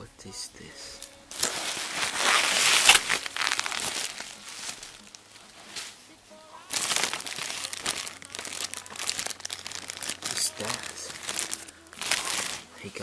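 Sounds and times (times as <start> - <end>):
paper and plastic bag crinkling: 0.9 - 13.0.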